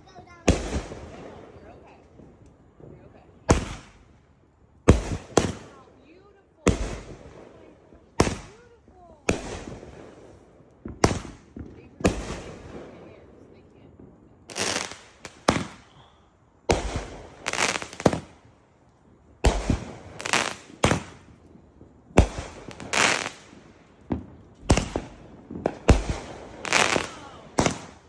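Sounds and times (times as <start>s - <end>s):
fireworks banging: 0.0s - 4.2s, 4.8s - 18.5s, 19.4s - 28.0s.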